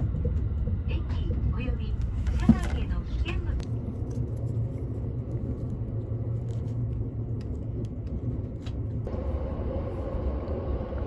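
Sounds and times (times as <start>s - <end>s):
train rumble inside passenger car: 0.0s - 11.0s.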